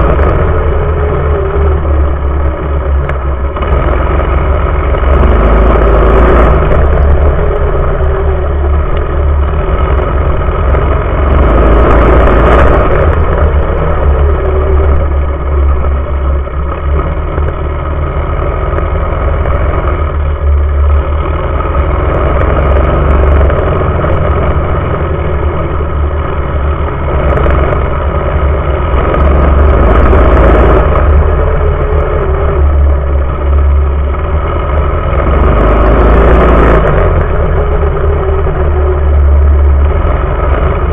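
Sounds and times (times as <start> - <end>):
heavy low rumble: 0.0 - 40.9
small engine running hard: 0.0 - 40.9.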